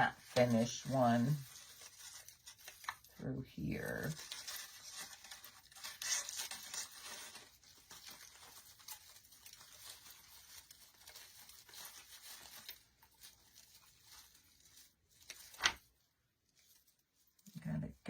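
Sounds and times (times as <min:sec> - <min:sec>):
rustling artificial pine branches: 0:00.0 - 0:18.0.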